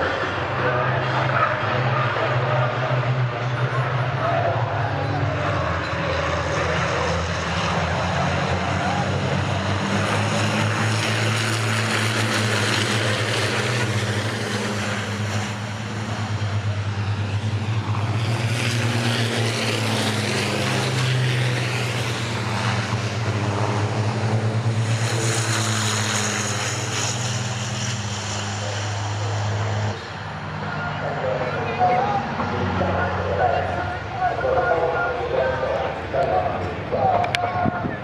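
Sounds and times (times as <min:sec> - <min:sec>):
truck diesel engines droning: 0:00.0 - 0:38.0.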